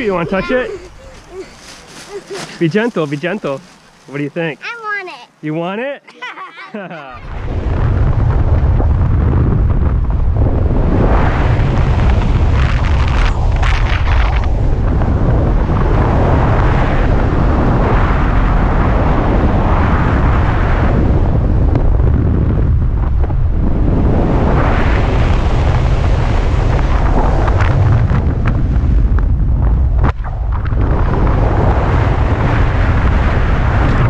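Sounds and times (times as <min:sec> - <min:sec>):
wind buffeting microphone: 0:00.0 - 0:04.1, 0:07.2 - 0:34.0.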